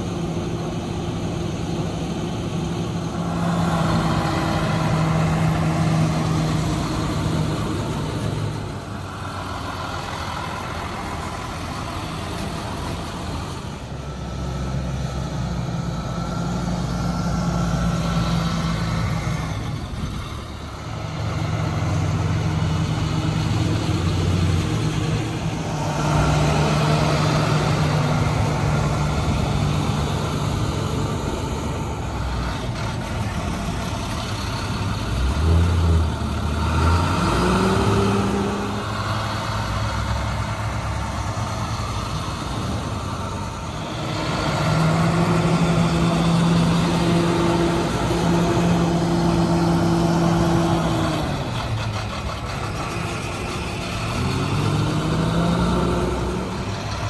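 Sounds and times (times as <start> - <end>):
bus engines accelerating: 0.0 - 57.0.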